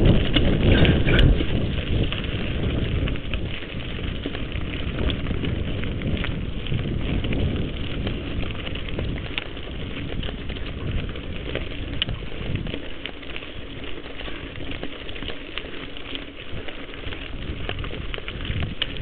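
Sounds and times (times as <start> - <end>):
bike clicks and rattles: 0.0 - 19.0
bike tyres rumbling on dirt: 0.0 - 19.0.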